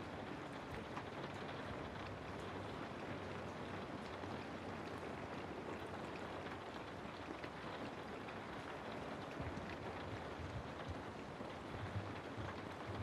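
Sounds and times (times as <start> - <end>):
rain on foliage: 0.0 - 13.0.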